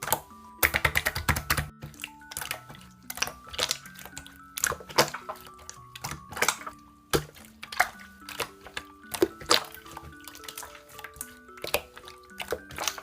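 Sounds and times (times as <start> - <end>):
slime squished by hand: 0.0 - 13.0
soft background music: 0.0 - 13.0.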